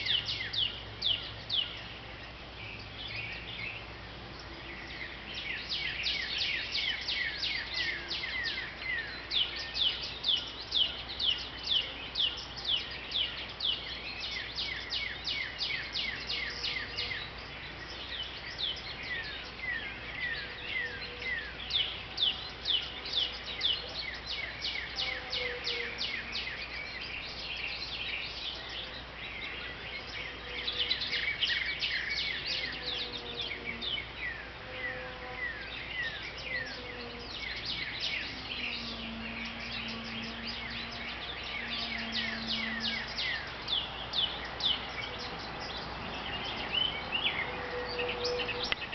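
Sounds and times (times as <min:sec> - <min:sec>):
small songbirds chirping: 0:00.0 - 0:48.9.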